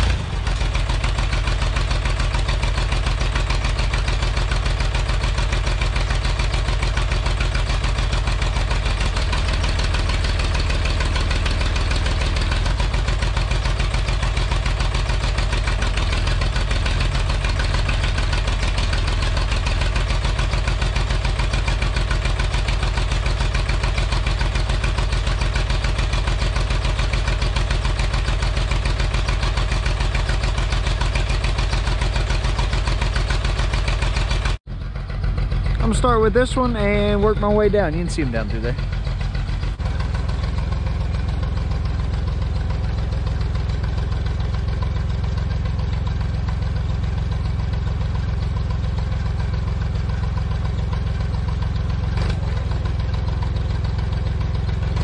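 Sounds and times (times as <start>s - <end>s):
backhoe engine idling: 0.0s - 55.0s.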